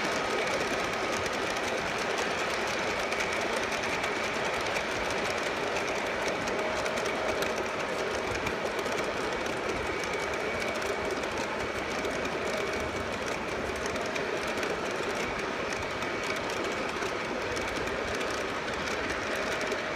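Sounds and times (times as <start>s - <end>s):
model train wheels rumbling: 0.0s - 19.9s.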